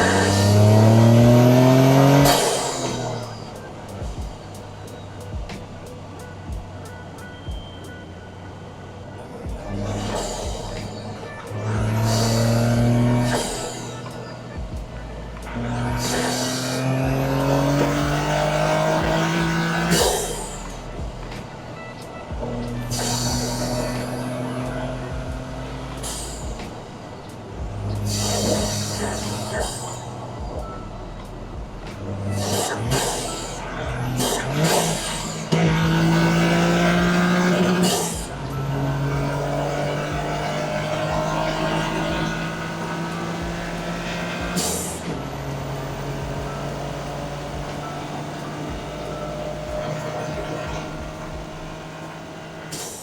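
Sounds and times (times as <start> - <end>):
boost release whooshes: 0.0 - 8.0, 9.1 - 53.0
car engine accelerating: 0.0 - 53.0
turbo spool whistle: 0.0 - 53.0.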